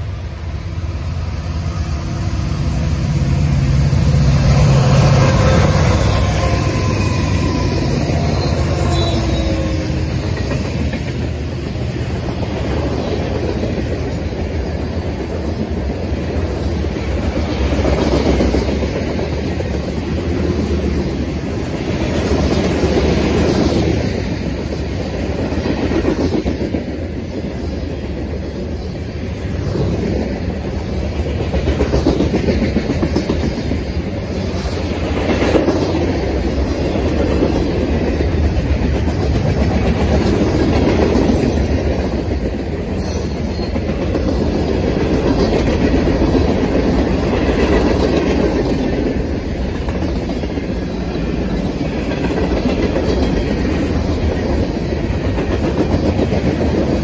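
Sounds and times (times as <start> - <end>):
freight cars rolling on rails: 0.0 - 57.0.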